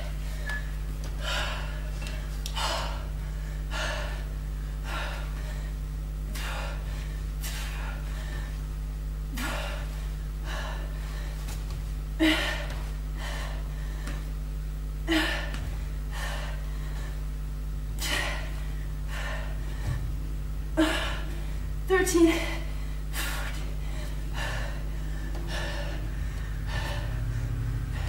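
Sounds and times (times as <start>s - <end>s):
steady low hum: 0.0s - 28.0s
woman breathing hard: 0.0s - 28.0s.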